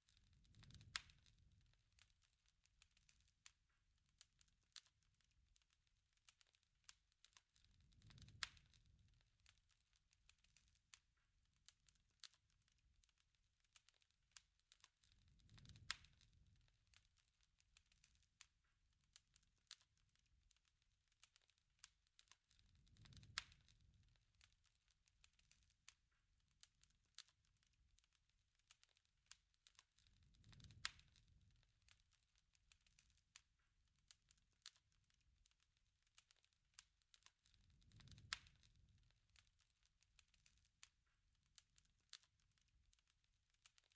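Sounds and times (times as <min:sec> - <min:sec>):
murmur of flame: 0:00.0 - 0:43.9
wood fire crackling: 0:00.0 - 0:43.9.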